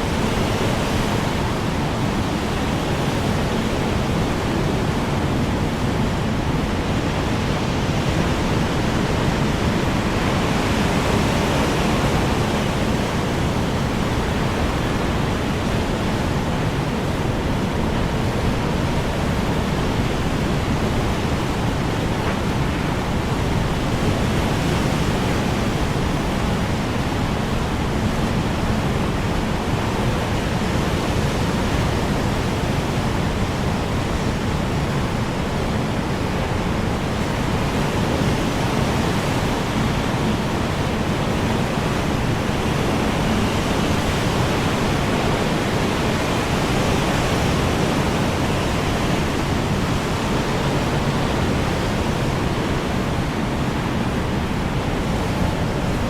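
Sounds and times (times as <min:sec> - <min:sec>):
strong wind blowing: 0:00.0 - 0:56.0.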